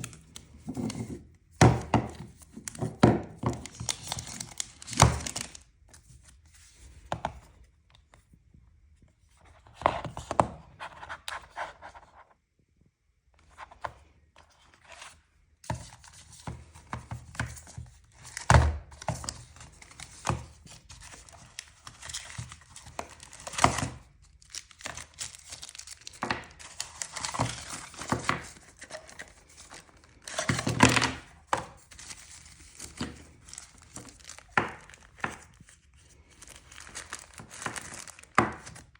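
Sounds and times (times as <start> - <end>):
plastic and paper crinkling: 0.0 - 7.1, 14.5 - 38.9.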